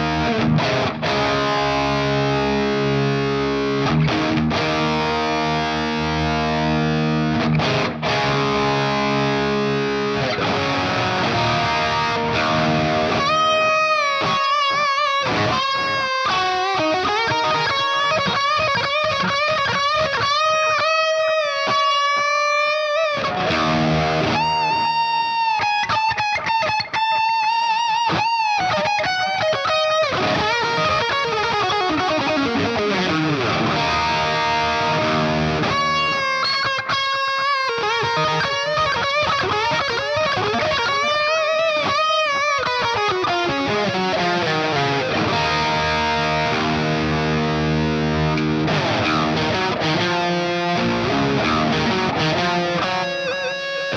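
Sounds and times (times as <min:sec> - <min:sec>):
distorted electric guitar lead: 0:00.0 - 0:53.9.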